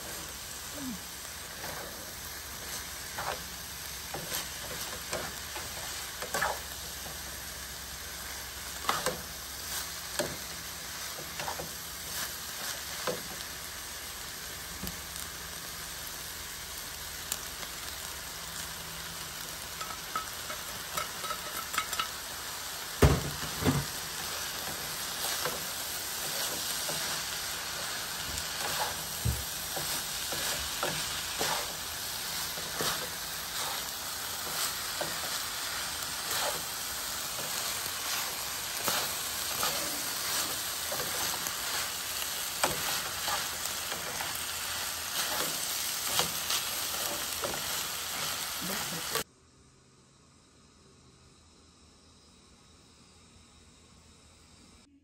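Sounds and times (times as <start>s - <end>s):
food sizzling in a frying pan: 0.0s - 49.3s.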